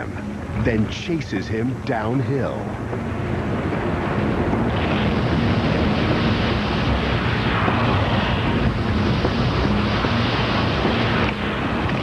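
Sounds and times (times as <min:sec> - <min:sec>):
snow avalanche rushing rumble: 0:00.0 - 0:12.0
wind buffeting microphone: 0:00.0 - 0:12.0.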